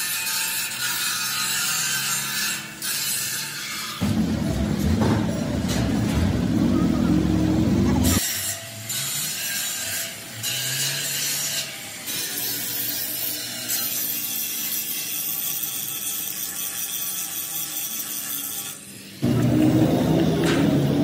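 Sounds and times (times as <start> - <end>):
angle grinder grinding steel: 0.0 - 21.0.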